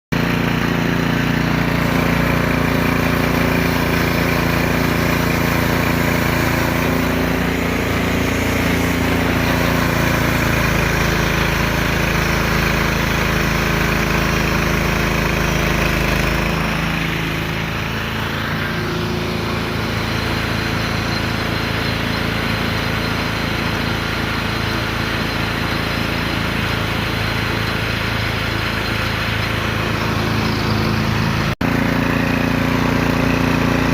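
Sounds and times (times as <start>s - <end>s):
small gasoline engine running: 0.1s - 33.9s.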